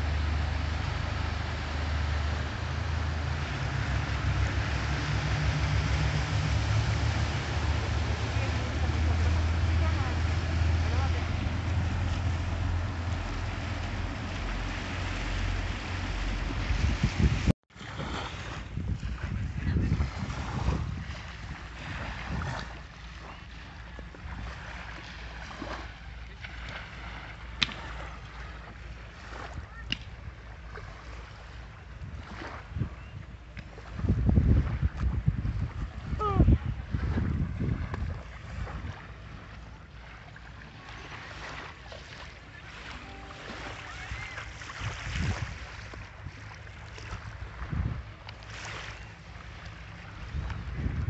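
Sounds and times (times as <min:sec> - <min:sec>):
boat engines droning: 0:00.0 - 0:51.0
small waves lapping on sand: 0:00.0 - 0:51.0
wind buffeting microphone: 0:01.5 - 0:25.7, 0:29.2 - 0:40.3, 0:43.5 - 0:51.0.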